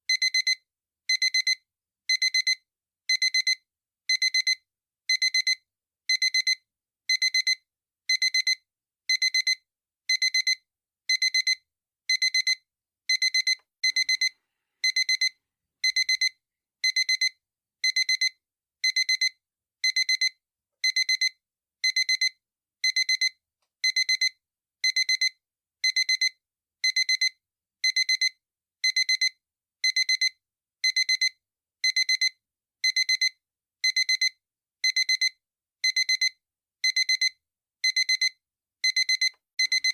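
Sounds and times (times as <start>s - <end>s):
digital alarm clock beeping: 0.1s - 39.9s.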